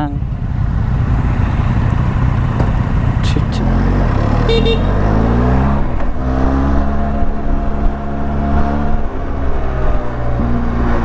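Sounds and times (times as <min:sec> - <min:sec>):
motorcycle engine pulling away: 0:00.5 - 0:10.8.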